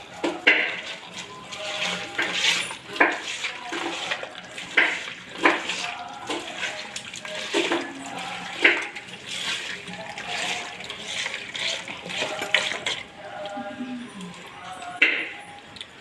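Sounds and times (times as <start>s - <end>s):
hands squelching wet mixture: 0.0s - 16.0s.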